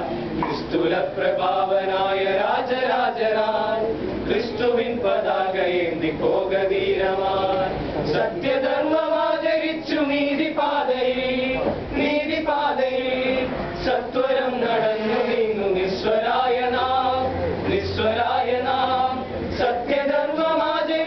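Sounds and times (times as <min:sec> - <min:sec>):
male voices singing a cappella: 0:00.0 - 0:21.0.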